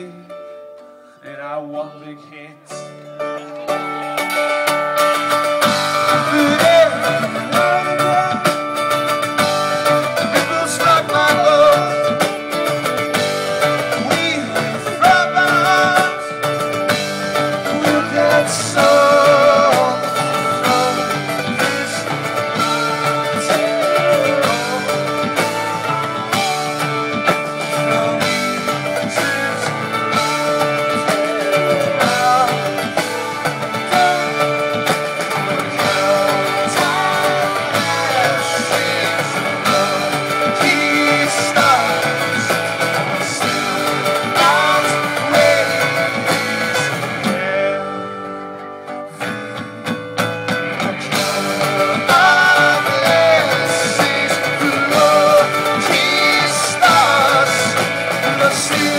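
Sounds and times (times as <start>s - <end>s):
guitars: 0.0s - 58.9s
live rock band playing: 0.0s - 58.9s.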